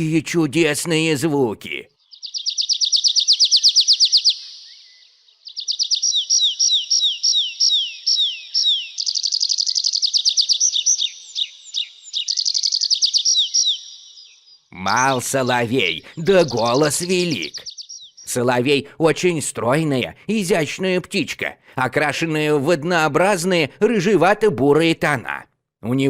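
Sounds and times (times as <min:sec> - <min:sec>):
nightingale singing: 0:00.0 - 0:20.9.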